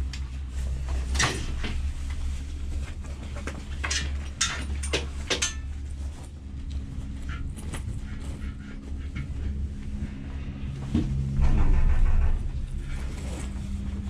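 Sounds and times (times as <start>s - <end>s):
low rumble inside cabin: 0.0s - 14.0s.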